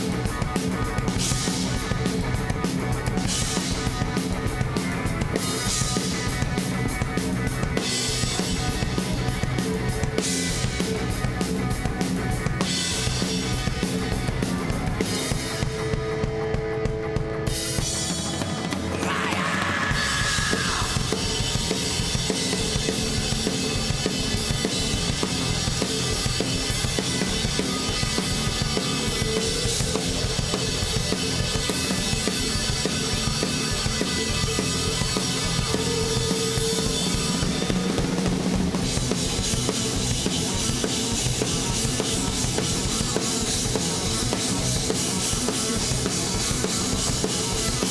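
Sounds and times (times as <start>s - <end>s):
bass guitar: 0.0s - 47.9s
drum kit steady beat: 0.0s - 47.9s
electric guitar: 0.0s - 47.9s.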